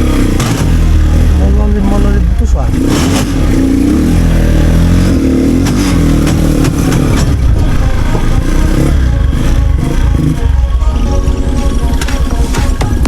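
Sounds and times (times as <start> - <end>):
tricycle engine running under load: 0.0 - 13.0.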